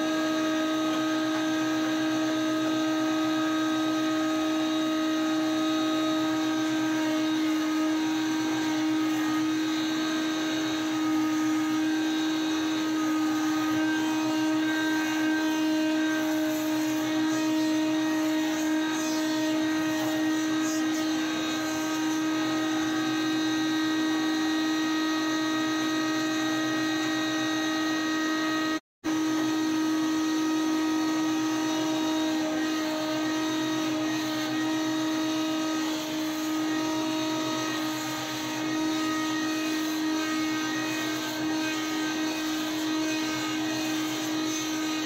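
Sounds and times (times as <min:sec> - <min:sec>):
sawmill motor hum and whine: 0:00.0 - 0:45.0.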